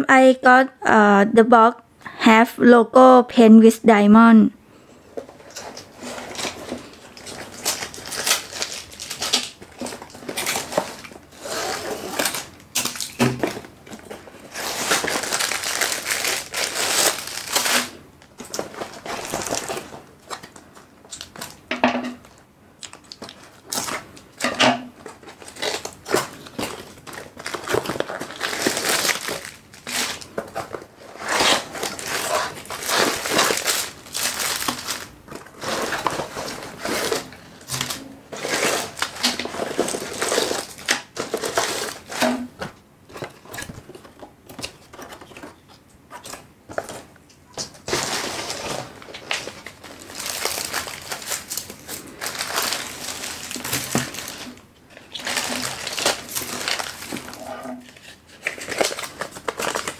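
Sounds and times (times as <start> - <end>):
bags and boxes crinkling: 5.2 - 21.6, 22.2 - 59.9.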